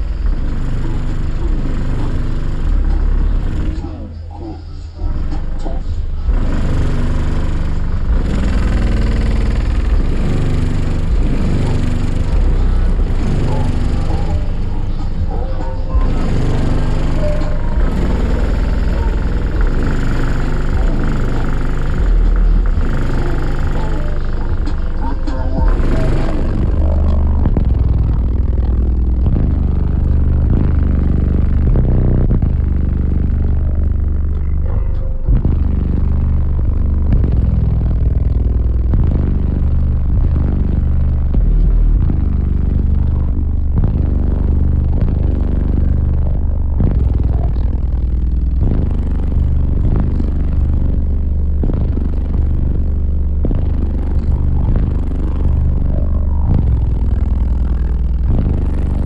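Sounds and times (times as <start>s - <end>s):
bass-heavy music from car stereo: 0.0s - 59.0s.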